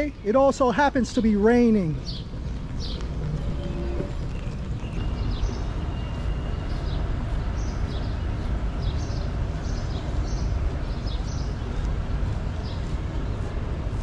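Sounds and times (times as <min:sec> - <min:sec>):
birds chirping: 0:00.0 - 0:14.0
low rumble of city ambience: 0:00.0 - 0:14.0.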